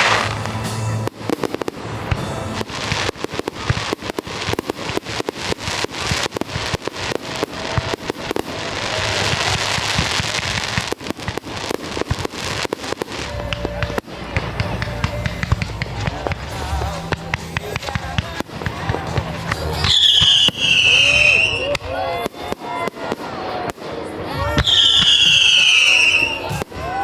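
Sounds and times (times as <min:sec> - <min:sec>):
crackling fireworks shells: 0:00.0 - 0:27.0
fireworks bangs and pops: 0:00.0 - 0:27.0.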